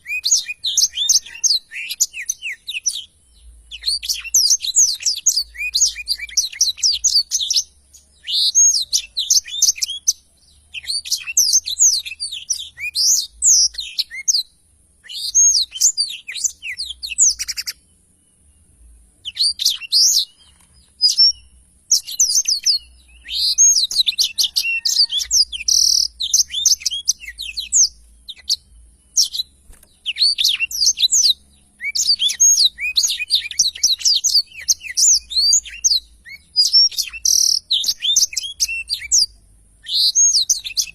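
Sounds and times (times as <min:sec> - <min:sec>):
canary twittering song: 0:00.0 - 0:40.9.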